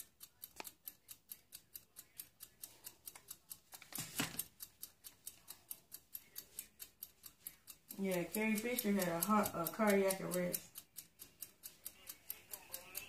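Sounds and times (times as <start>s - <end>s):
fast ticking mechanism: 0.0s - 13.0s.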